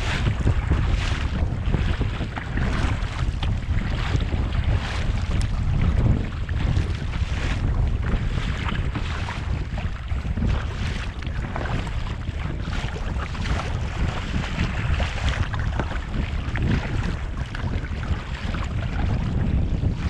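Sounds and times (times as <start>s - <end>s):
water splashing around kayak: 0.0s - 20.0s
wind buffeting microphone: 0.0s - 20.0s.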